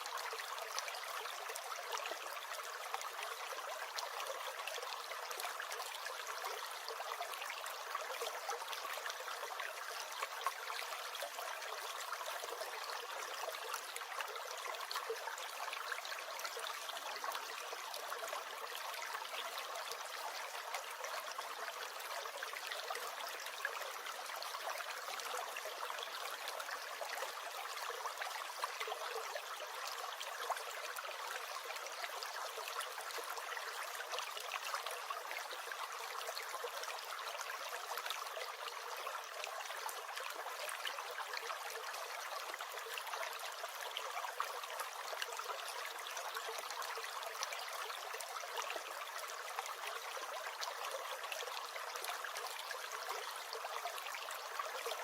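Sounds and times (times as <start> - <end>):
stream gurgling and trickling: 0.0 - 55.0.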